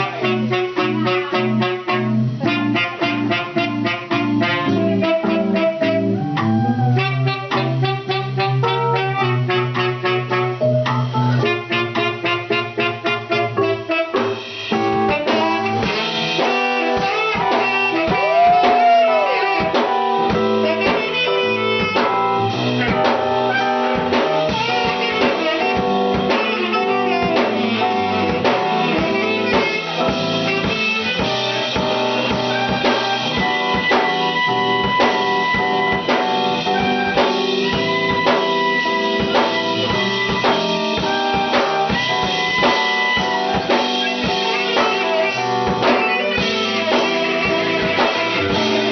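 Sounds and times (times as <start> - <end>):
bluesy jazz guitar and drums: 0.0 - 48.9.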